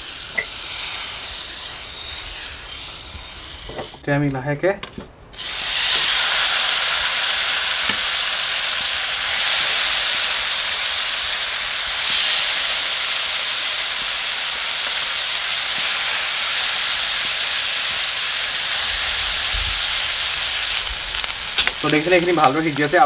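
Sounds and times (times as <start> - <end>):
chicken sizzling in butter: 0.0 - 4.0, 5.4 - 23.0.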